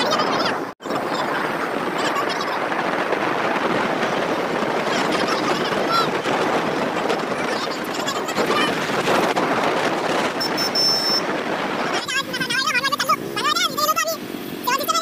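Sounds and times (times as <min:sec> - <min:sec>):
vehicle driving on road: 0:00.0 - 0:15.0.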